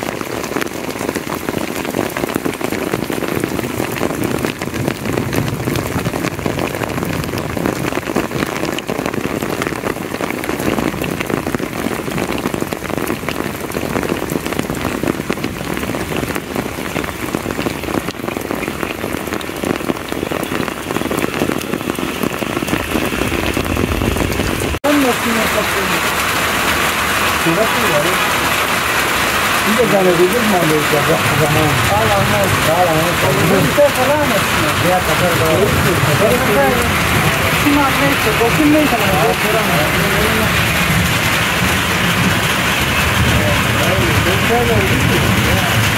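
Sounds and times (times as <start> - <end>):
heavy rain on leaves and paving: 0.0 - 45.9.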